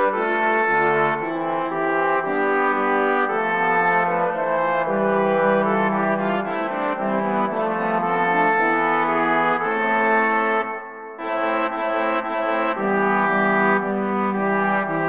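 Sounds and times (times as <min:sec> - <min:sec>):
low trombone line: 0:00.0 - 0:15.0
renaissance wind and viol ensemble: 0:00.0 - 0:15.0.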